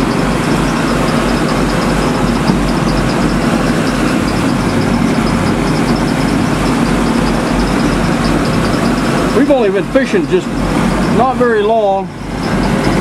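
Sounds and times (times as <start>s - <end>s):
boat engine throbbing: 0.0s - 13.0s.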